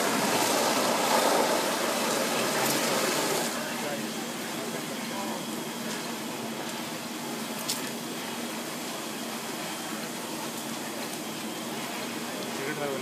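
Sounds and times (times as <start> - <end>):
rushing fire and hose streams: 0.0 - 13.0.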